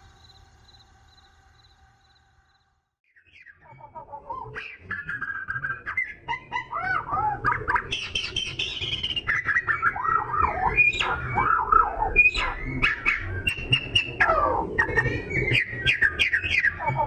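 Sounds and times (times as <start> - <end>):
bird singing whistled song: 3.1 - 17.0.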